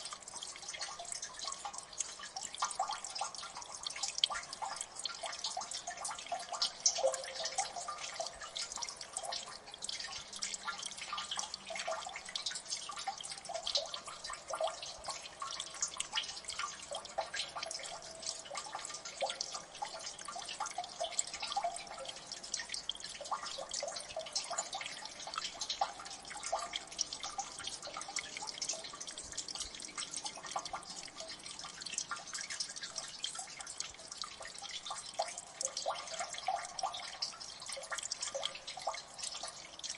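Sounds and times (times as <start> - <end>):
water dripping into water: 0.0 - 39.9.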